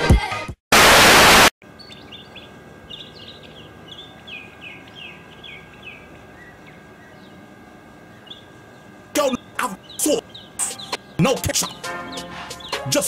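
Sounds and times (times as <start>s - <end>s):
outdoor background noise: 1.0s - 13.0s
faint steady hum: 1.6s - 12.8s
mockingbird chirping: 1.6s - 13.0s.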